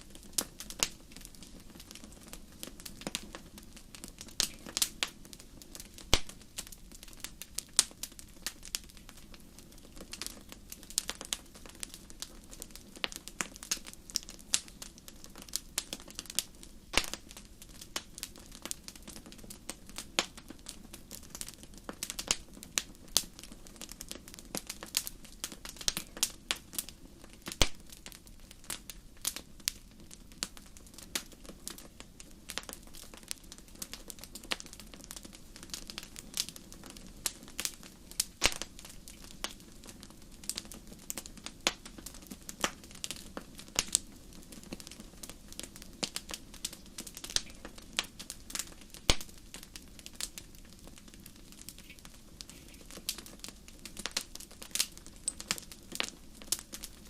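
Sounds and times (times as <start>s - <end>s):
fire pops and snaps: 0.0s - 57.0s
low rumble of flames: 0.0s - 57.0s.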